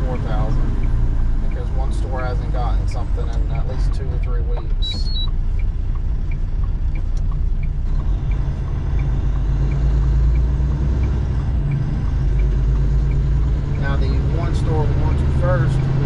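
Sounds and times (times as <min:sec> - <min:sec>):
truck engine and road noise: 0:00.0 - 0:16.0
faint ticking: 0:00.1 - 0:14.5.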